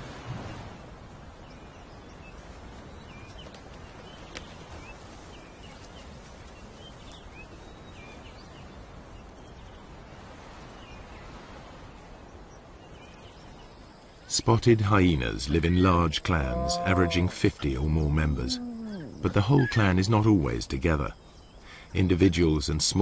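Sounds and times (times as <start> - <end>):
background rumble and hiss: 0.0 - 23.0.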